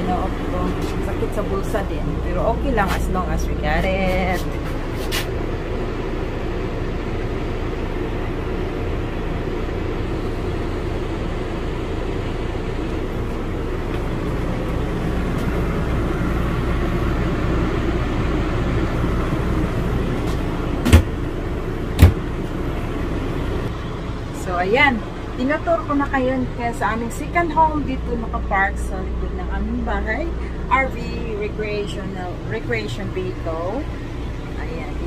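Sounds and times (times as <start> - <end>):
low mechanical drone: 0.0 - 35.0.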